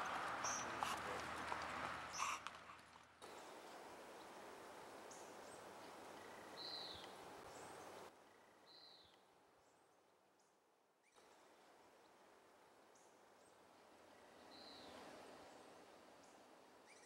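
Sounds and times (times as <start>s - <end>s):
forest hiss: 0.0s - 9.2s, 11.0s - 17.0s.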